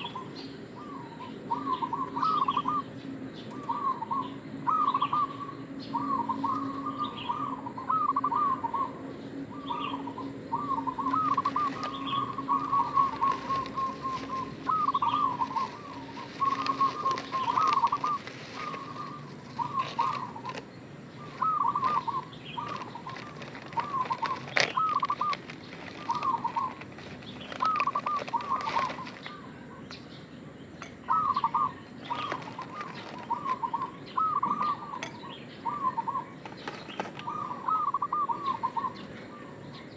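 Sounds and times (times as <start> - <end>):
dove cooing: 0.0 - 30.1, 30.8 - 39.9.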